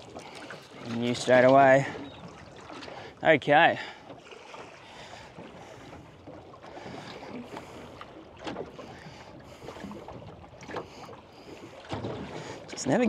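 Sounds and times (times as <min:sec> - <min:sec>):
water washing against boat hull: 0:00.0 - 0:13.0.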